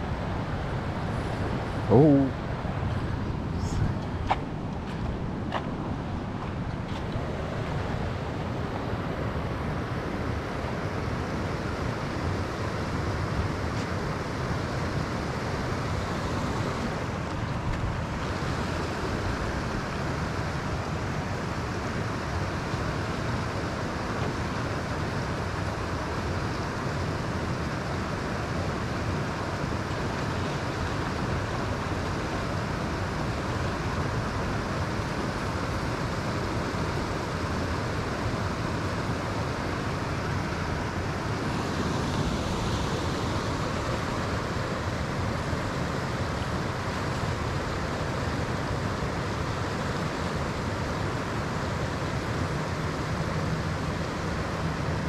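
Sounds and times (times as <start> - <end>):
steady rushing noise: 0.0 - 55.0.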